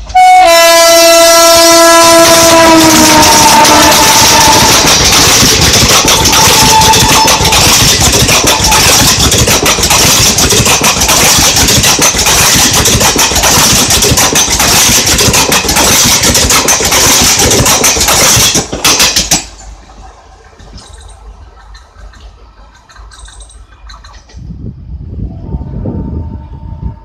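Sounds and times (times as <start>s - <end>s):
train wheels clattering: 0.0s - 24.4s
train rushing past: 0.0s - 27.0s.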